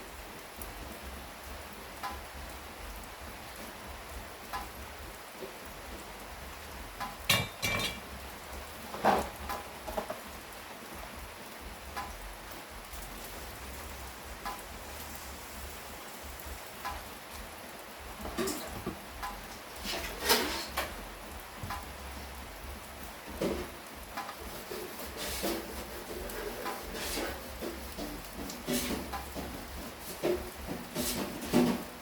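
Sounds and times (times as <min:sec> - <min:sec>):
steady rain falling: 0:00.0 - 0:32.0
water drips: 0:00.5 - 0:30.8.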